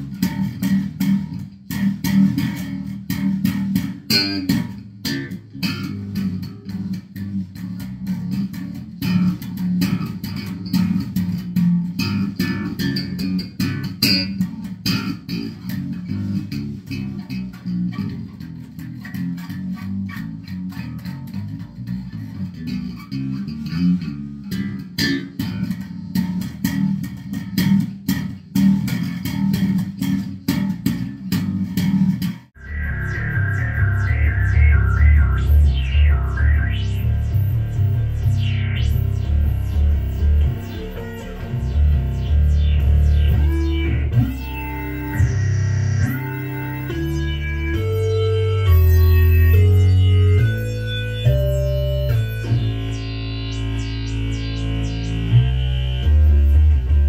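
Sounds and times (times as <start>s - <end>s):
electric bass guitar plucked: 0.0s - 57.0s.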